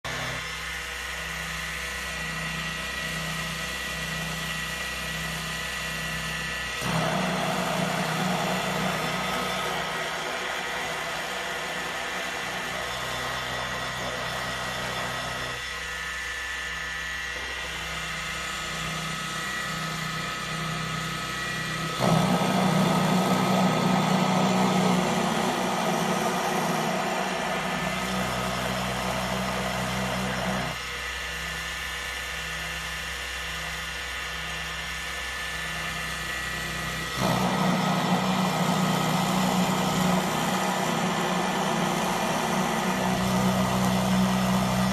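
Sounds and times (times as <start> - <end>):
milling machine motor whine: 0.0 - 44.9.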